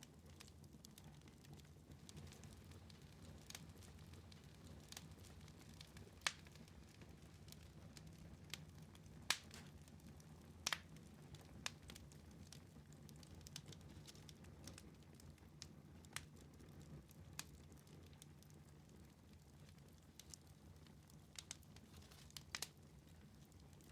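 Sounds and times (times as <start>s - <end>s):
fireplace fire crackling: 0.0s - 23.9s.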